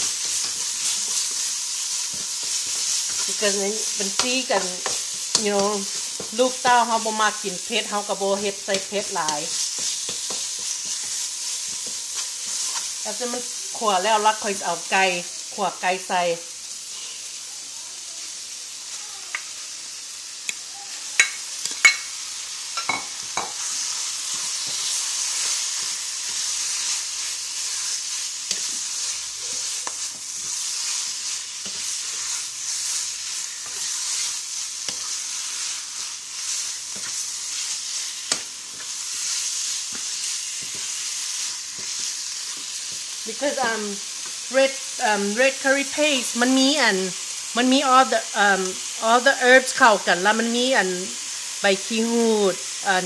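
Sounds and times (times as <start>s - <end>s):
chicken sizzling in oil: 0.0s - 53.0s.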